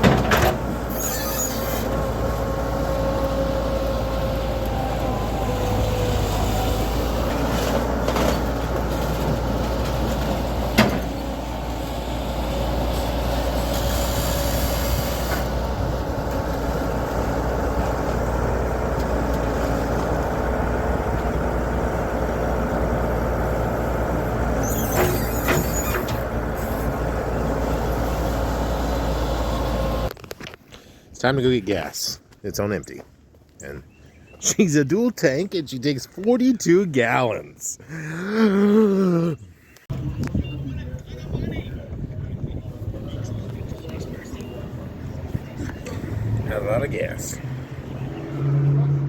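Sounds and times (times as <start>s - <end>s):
heavy vehicle engine running: 0.0s - 30.3s, 39.8s - 49.0s.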